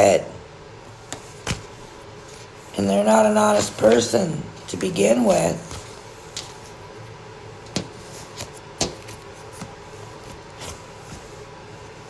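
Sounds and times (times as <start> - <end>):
faint hum: 0.0 - 12.0
steady low hiss: 0.0 - 12.0.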